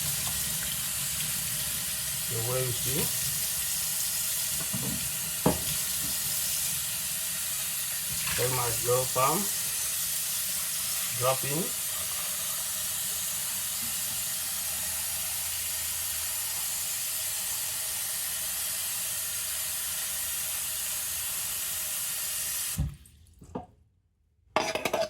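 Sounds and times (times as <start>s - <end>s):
tap water running into pan: 0.0s - 23.1s.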